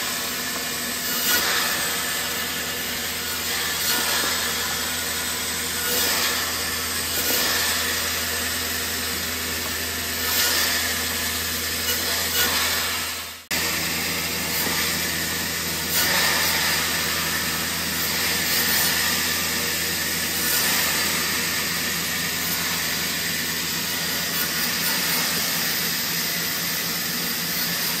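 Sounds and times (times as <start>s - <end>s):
band saw cutting wood: 0.0s - 28.0s.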